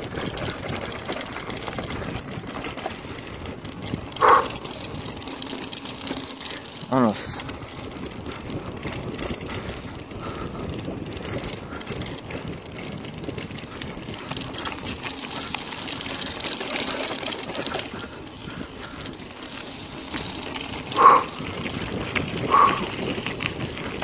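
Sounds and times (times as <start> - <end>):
bike tyres on gravel: 0.0 - 24.0.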